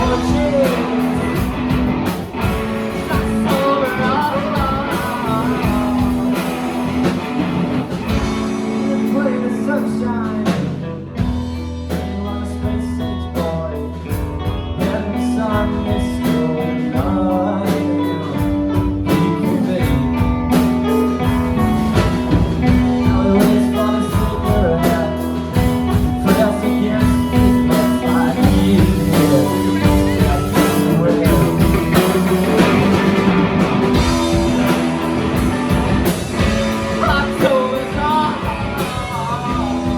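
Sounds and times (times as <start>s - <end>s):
person singing: 0.0s - 2.0s, 2.6s - 6.6s, 8.2s - 35.8s, 36.4s - 39.9s
drums: 0.0s - 39.9s
electric guitar: 0.0s - 39.9s.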